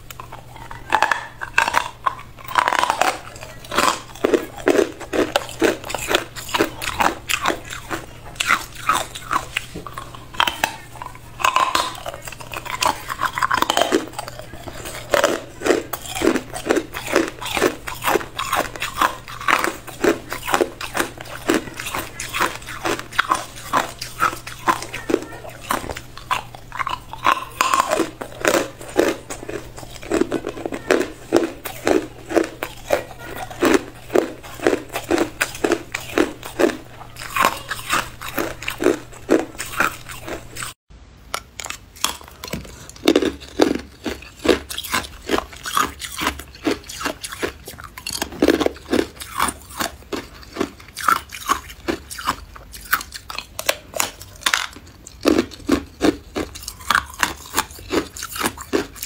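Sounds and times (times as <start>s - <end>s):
ice crunching between teeth: 0.0s - 40.8s, 41.4s - 59.0s.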